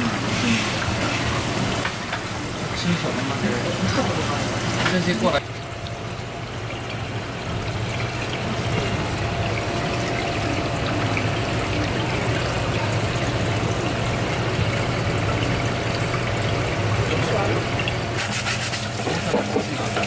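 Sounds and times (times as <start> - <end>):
steady low hum: 0.0 - 18.4
water pouring into tank: 0.0 - 20.0.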